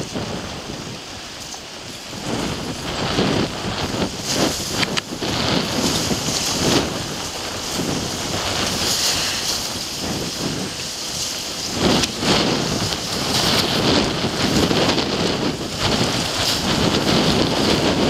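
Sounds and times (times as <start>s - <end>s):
wind buffeting microphone: 0.0s - 18.0s
ice grinding against ship hull: 2.2s - 18.0s.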